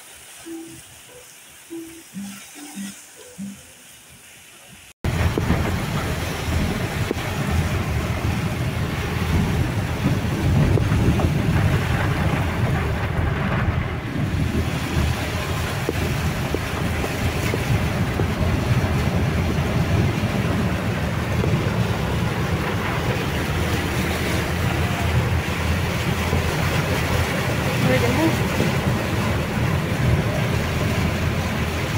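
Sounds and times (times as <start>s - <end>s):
floodwater rushing: 0.0s - 31.9s
heavy rain: 0.0s - 31.9s
deep rumble: 5.0s - 31.9s
wind buffeting microphone: 5.0s - 31.9s.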